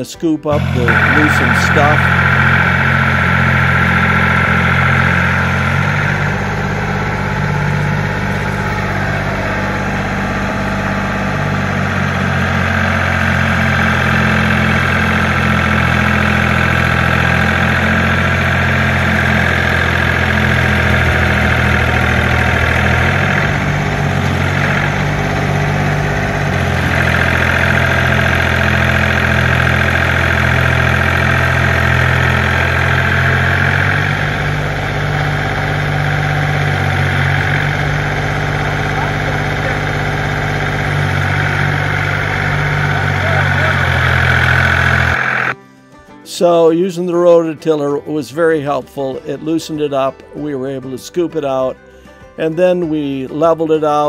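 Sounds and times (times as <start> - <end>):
tractor engine running: 0.0 - 45.6, 46.3 - 54.0.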